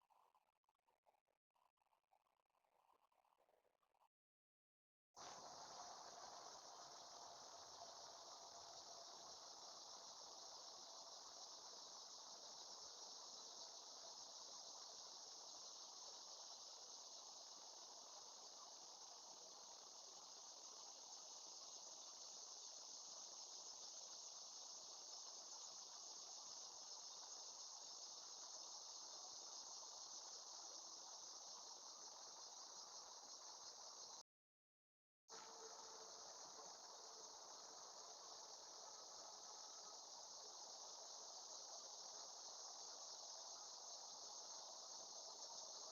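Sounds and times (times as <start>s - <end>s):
crickets chirping: 5.2s - 34.2s, 35.3s - 45.9s.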